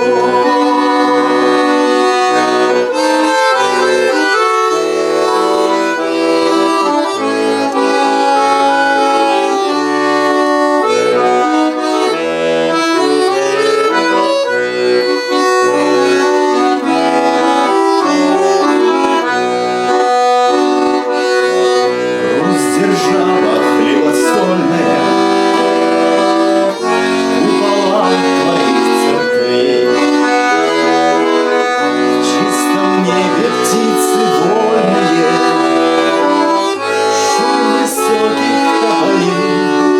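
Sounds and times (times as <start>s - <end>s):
accordion playing: 0.0s - 39.9s.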